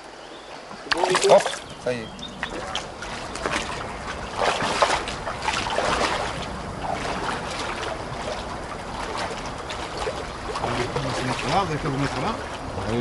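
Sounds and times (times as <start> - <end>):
river current rushing: 0.0 - 13.0
water splashing around legs: 0.6 - 13.0.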